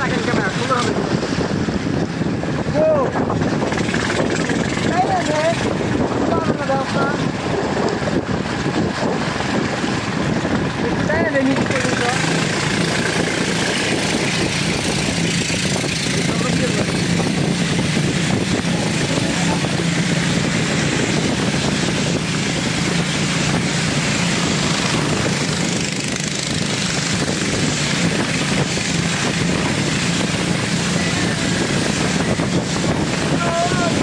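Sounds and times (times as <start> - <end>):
boat engine humming: 0.0 - 34.0
water rushing along hull: 0.0 - 34.0.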